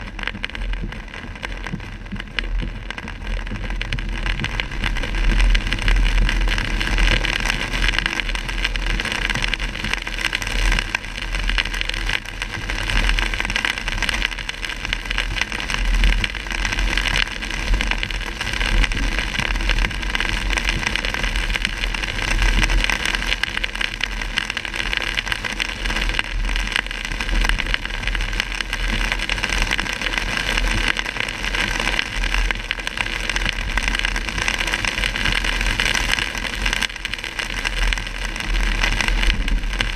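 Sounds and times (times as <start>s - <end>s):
heavy rain on car windshield: 0.0s - 39.9s
low rumble: 0.0s - 39.9s
tyre and road noise: 0.0s - 39.9s.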